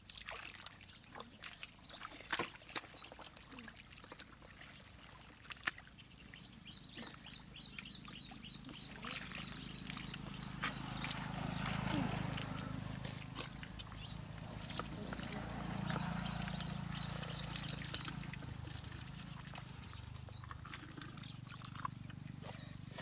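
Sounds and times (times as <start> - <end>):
wet clicks and drips: 0.0 - 22.9
squelching through muddy water: 0.0 - 23.0.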